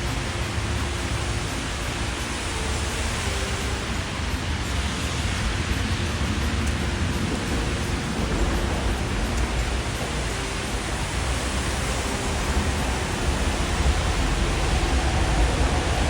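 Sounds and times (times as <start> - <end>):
low rumble: 0.0 - 16.0
rain on wet street: 0.0 - 16.0.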